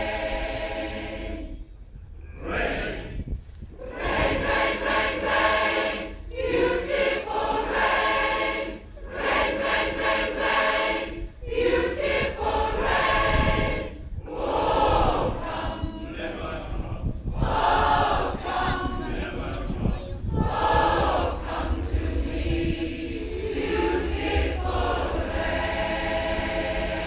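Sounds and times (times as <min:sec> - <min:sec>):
mixed choir singing: 0:00.0 - 0:01.6, 0:02.3 - 0:27.0.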